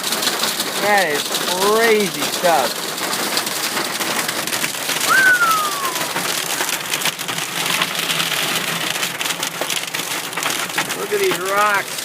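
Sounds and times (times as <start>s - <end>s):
hail hitting car roof and glass: 0.0s - 12.0s.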